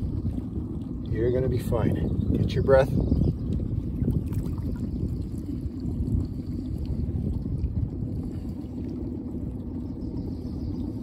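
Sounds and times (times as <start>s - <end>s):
shallow river water flowing: 0.0s - 11.0s
wind buffeting microphone: 0.0s - 11.0s.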